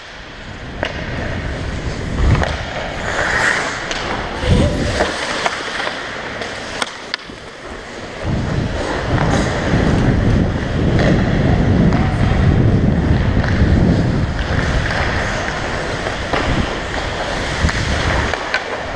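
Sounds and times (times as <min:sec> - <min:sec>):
wind rumble on microphone: 0:00.1 - 0:05.3, 0:07.3 - 0:18.9
ice skate blades scraping ice: 0:00.5 - 0:11.3, 0:13.1 - 0:18.9.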